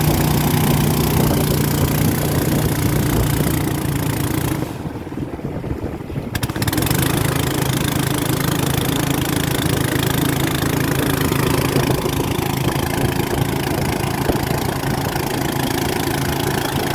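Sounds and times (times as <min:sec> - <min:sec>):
boat engine running: 0:00.0 - 0:16.9
hiss of wind or water: 0:00.0 - 0:16.9.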